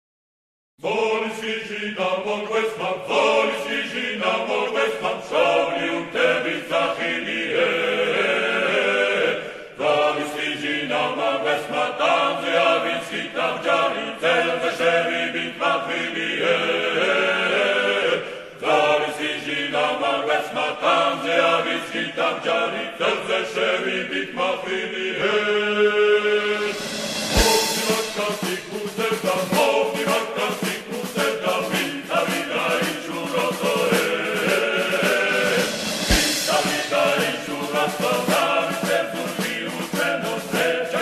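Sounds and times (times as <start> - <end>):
choir singing: 0.8 - 41.0.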